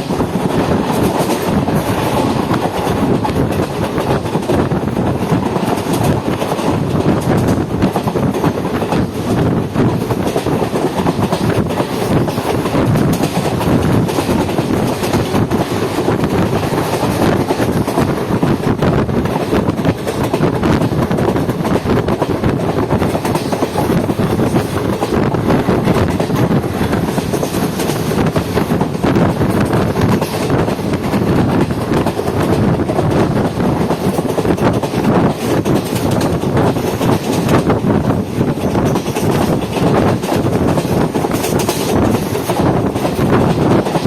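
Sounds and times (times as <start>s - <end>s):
train wheels rumbling on track: 0.0s - 44.0s.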